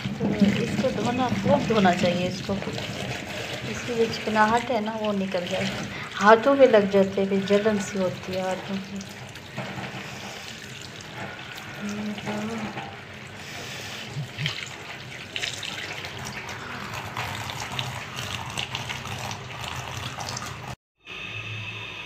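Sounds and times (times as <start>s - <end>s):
hand rubbing and rinsing vegetables: 0.0s - 20.8s
tap water running into colander: 0.0s - 20.8s.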